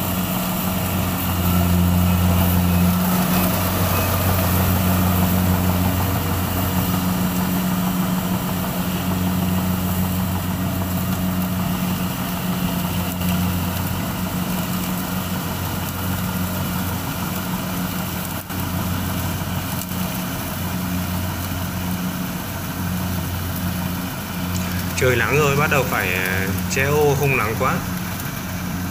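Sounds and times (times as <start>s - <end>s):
combine harvester diesel engine: 0.0s - 28.9s.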